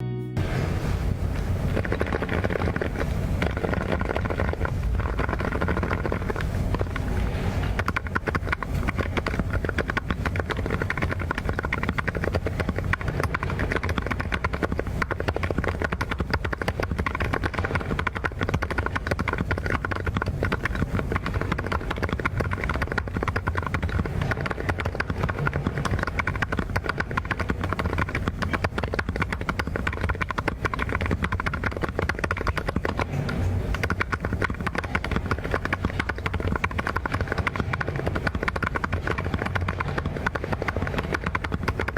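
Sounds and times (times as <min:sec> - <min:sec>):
mechanical keyboard typing: 0:01.6 - 0:41.9.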